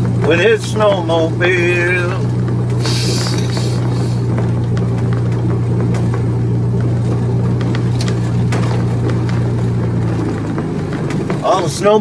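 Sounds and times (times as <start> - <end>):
light ticks and rattles: 0.0 - 12.0
vehicle engine droning: 0.0 - 12.0.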